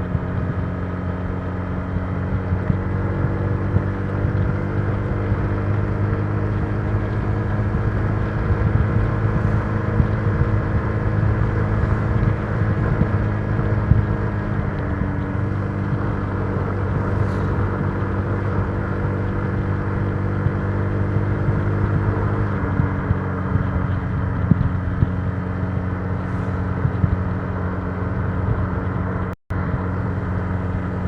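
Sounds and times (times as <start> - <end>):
scooter engine cruising: 0.0 - 31.0.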